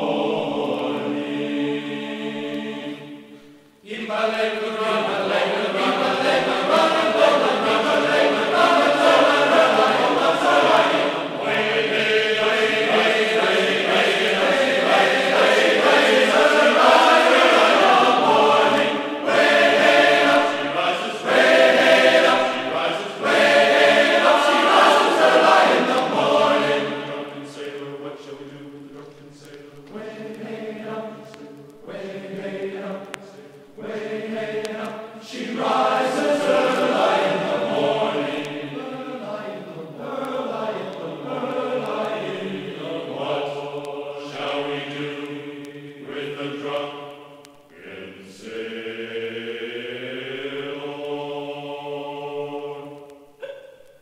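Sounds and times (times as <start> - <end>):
slow choir-like chanting: 0.0 - 54.0.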